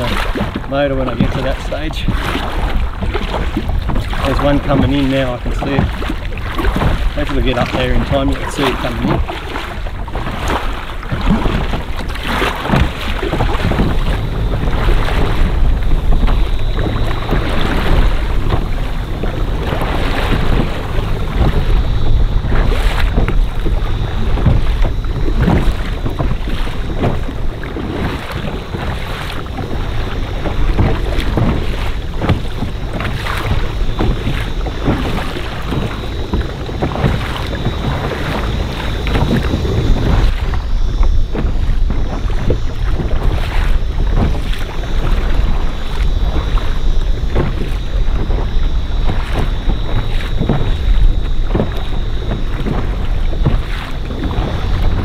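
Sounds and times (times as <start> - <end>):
water splashes: 0.0 - 55.0
wind buffeting microphone: 0.0 - 55.0.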